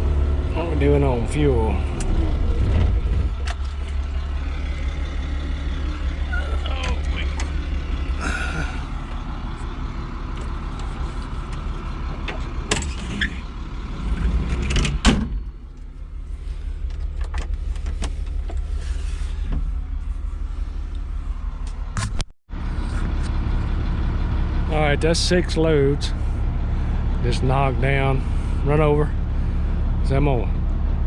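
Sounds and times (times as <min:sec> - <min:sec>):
heavy equipment engine running: 0:00.0 - 0:31.0.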